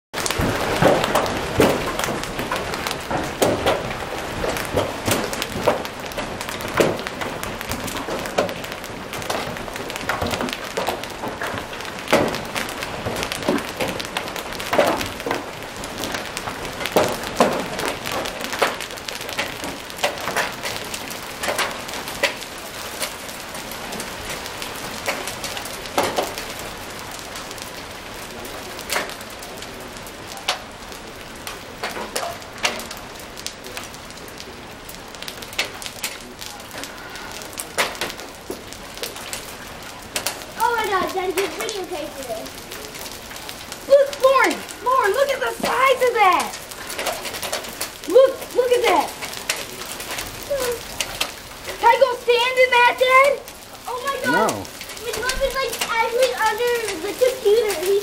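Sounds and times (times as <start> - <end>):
hiss of falling rain: 0.1 - 58.0
hailstones striking hard surfaces: 0.2 - 58.0.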